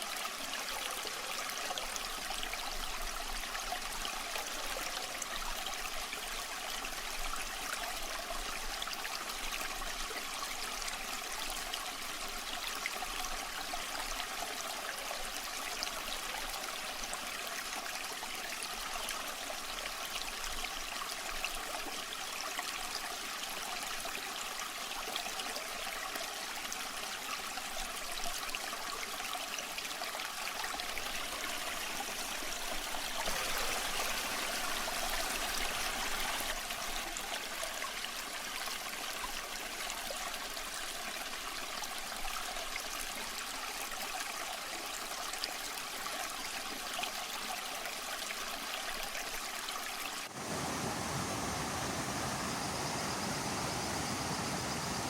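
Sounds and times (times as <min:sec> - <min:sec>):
stream water rushing and trickling: 0:00.0 - 0:55.0.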